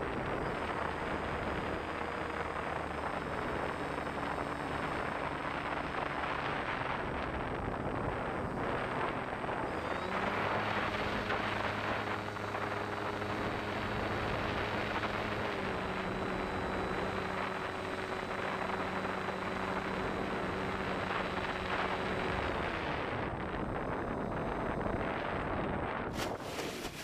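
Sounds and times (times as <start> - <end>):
electric motor humming: 0.0 - 27.0
wind rushing over microphone: 0.0 - 27.0.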